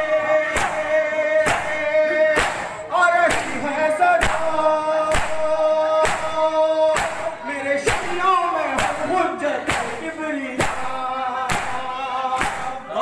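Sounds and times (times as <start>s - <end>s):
man singing lament through microphone: 0.0s - 13.0s
mourners chanting along: 0.0s - 13.0s
palms beating on bare chests: 0.5s - 12.8s.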